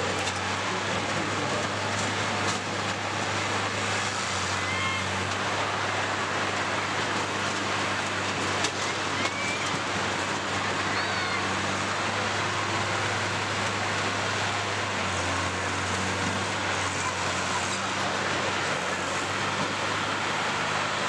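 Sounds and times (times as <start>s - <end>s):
combine harvester engines running: 0.0s - 21.0s.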